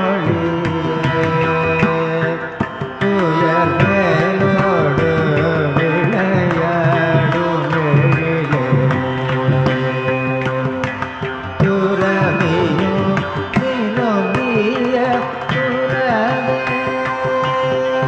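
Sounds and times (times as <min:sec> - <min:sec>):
person singing devotional song: 0:00.0 - 0:18.0.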